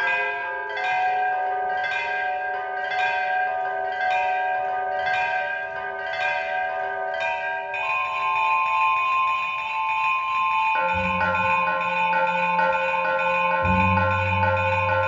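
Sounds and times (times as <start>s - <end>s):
bell-like synthesizer tones: 0.0s - 15.0s.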